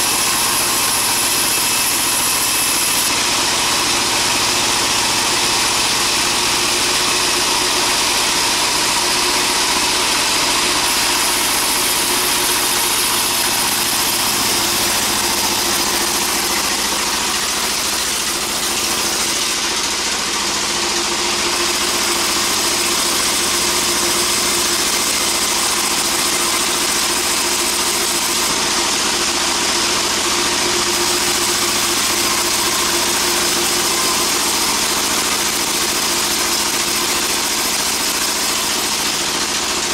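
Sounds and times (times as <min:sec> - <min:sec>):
band saw machinery drone: 0:00.0 - 0:39.9.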